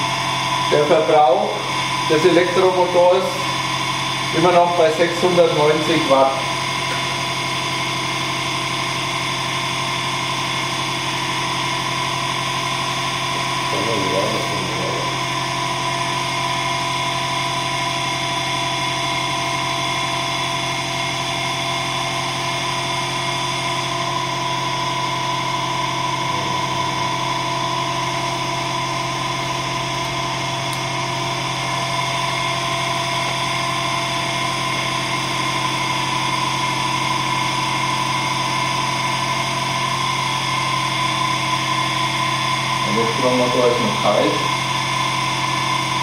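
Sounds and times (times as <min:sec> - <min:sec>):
electric motor humming and whining: 0:00.0 - 0:46.0.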